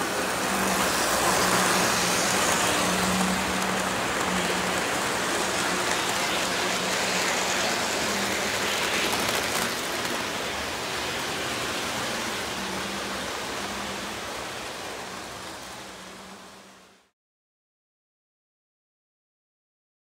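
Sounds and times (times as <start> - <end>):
model train wheels rushing on rails: 0.0 - 17.1.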